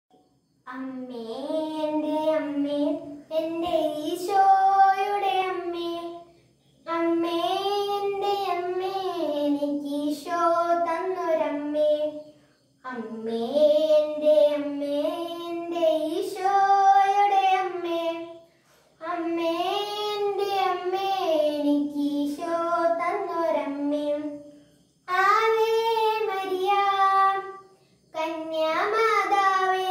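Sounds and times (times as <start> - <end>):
boy singing a hymn: 0.6 - 29.9.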